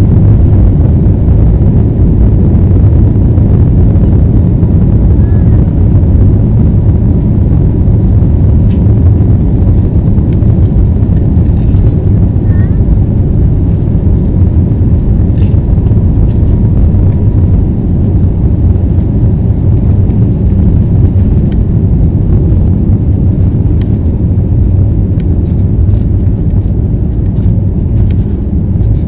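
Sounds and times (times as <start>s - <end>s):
jet engines low rumble: 0.0s - 29.0s.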